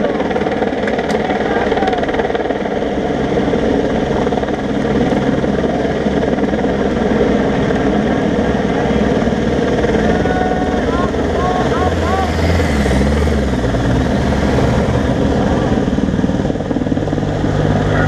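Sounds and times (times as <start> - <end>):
loud engine drone: 0.0 - 18.0.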